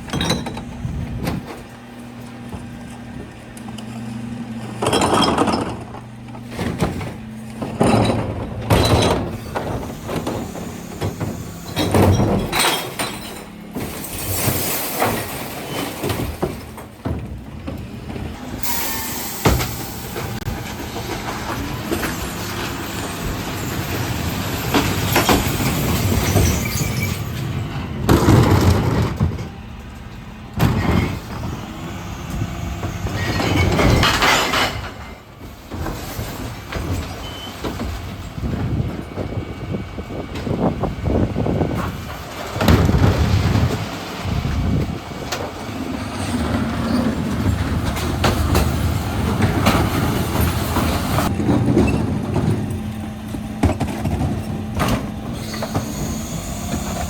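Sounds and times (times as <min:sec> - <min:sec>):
truck engine and hydraulics running: 0:00.0 - 0:57.0.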